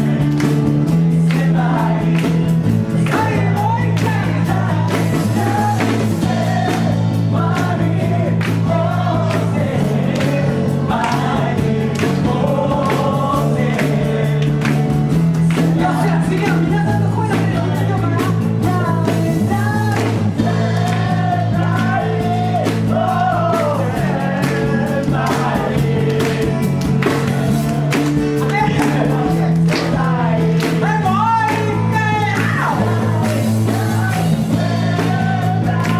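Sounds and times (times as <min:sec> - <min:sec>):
acoustic guitar: 0:00.0 - 0:35.9
man singing: 0:00.0 - 0:35.9
steady beat: 0:00.0 - 0:35.9.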